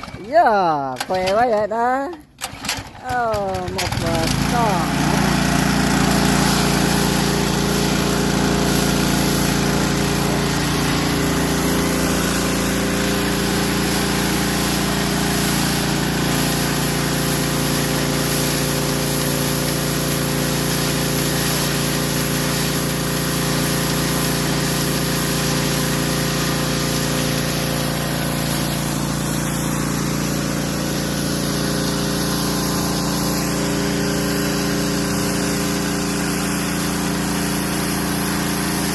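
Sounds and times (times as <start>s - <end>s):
pressure washer engine hum: 0.0s - 38.9s
high-pressure water spray hiss: 3.7s - 38.9s.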